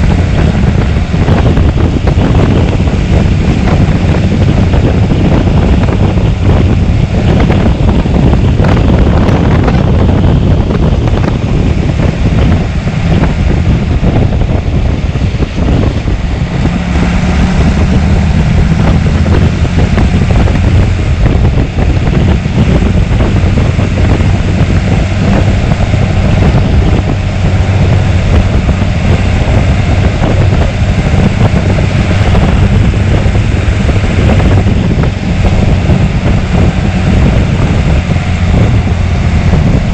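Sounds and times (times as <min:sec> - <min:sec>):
diesel engine running: 0:00.0 - 0:39.9
wind noise on microphone: 0:00.0 - 0:39.9.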